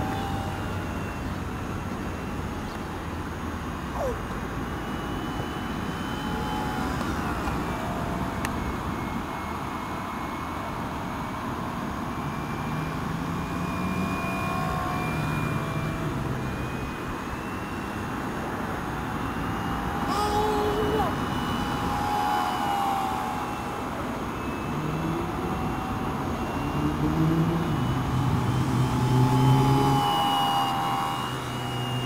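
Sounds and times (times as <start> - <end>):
model plane motor whine: 0.0 - 32.0
steady rushing background noise: 0.0 - 32.0.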